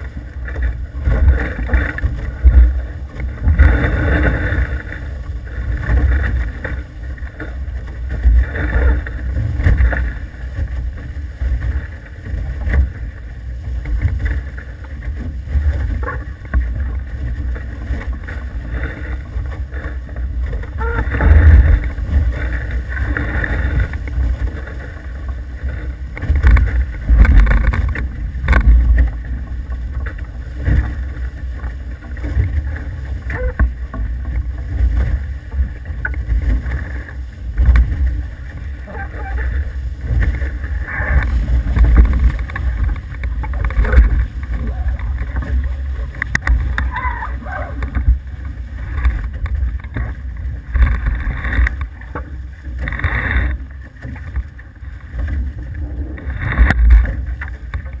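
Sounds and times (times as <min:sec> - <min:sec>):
rushing water surges: 0:00.0 - 0:58.0
wind buffeting microphone: 0:00.0 - 0:58.0
knocks from boat: 0:05.7 - 0:58.0.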